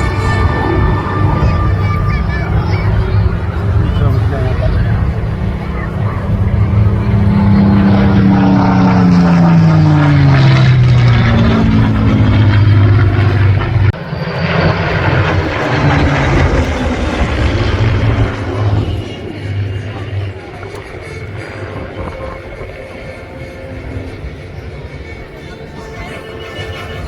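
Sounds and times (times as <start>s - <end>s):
propeller plane flying past: 0.0s - 27.0s.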